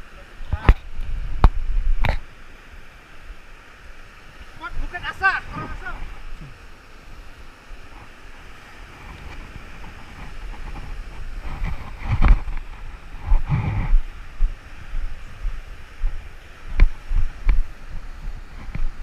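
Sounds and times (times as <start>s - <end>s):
sea surf washing in: 0.0s - 19.0s
wind buffeting microphone: 0.4s - 2.3s, 4.4s - 6.6s, 7.2s - 19.0s.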